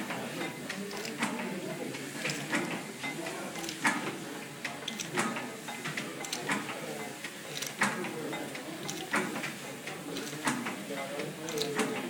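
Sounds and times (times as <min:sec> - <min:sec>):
mechanical clatter and ticking: 0:02.2 - 0:12.0.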